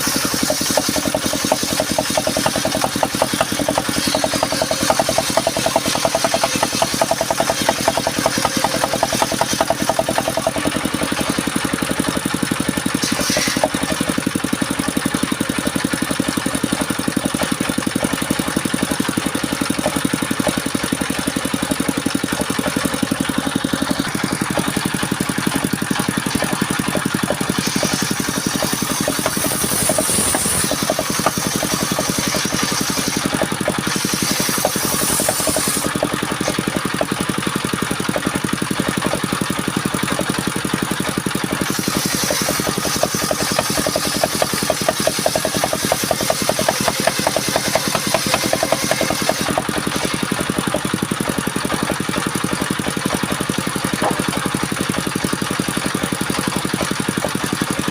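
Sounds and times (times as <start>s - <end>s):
saw machine engine running: 0.0s - 57.9s.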